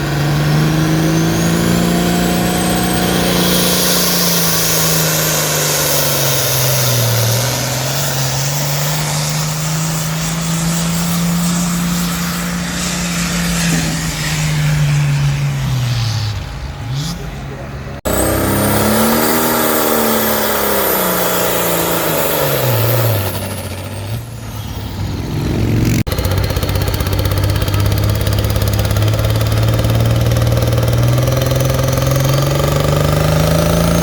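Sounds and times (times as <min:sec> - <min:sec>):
truck engine at high revs: 0:00.0 - 0:34.0.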